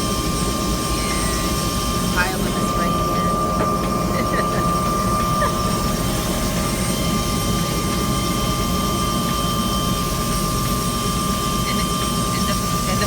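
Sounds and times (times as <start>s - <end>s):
helicopter turbine and rotor: 0.0s - 13.0s.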